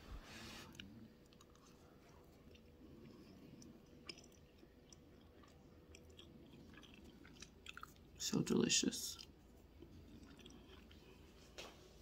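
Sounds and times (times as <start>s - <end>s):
close-up chewing: 0.6s - 11.6s.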